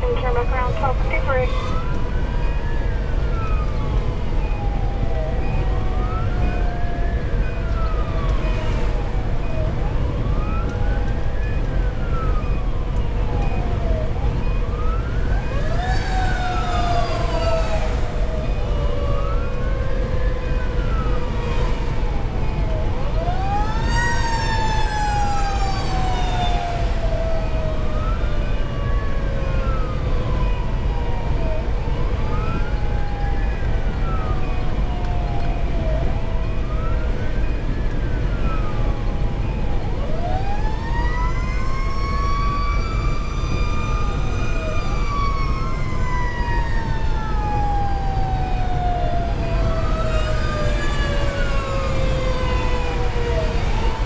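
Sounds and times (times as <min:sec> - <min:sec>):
diesel engine and road rumble: 0:00.0 - 0:54.0
fire engine siren wailing: 0:00.0 - 0:54.0
lower siren tone: 0:00.0 - 0:54.0.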